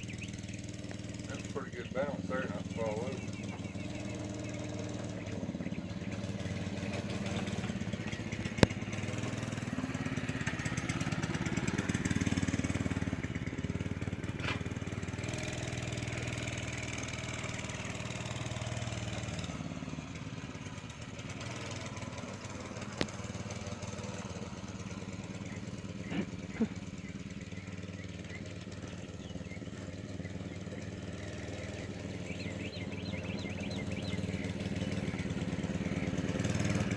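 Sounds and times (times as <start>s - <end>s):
mini bike engine running: 0.0s - 36.9s.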